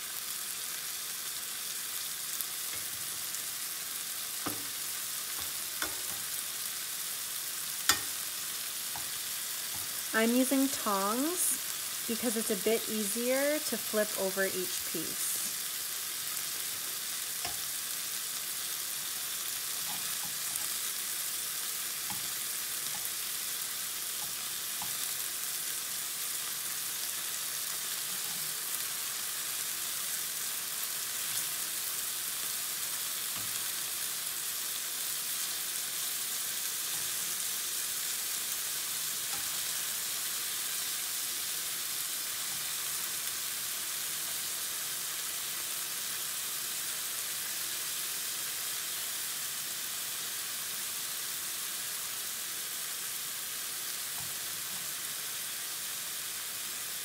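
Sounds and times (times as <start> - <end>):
chicken sizzling in oil: 0.0 - 57.0.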